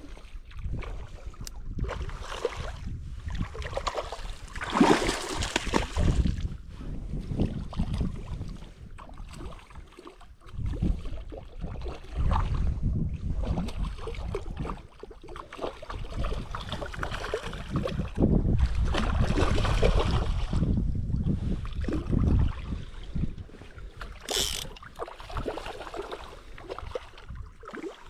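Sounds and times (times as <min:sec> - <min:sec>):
gusty wind buffeting microphone: 0:00.4 - 0:09.9, 0:10.5 - 0:14.9, 0:16.0 - 0:25.6.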